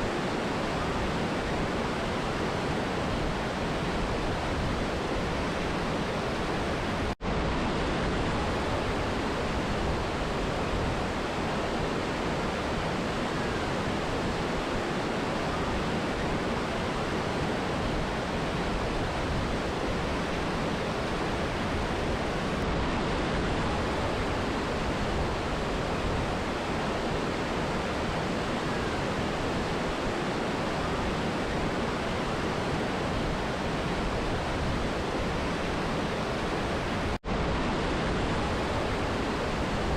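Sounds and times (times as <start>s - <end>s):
river and waterfall roar: 0.0s - 39.9s.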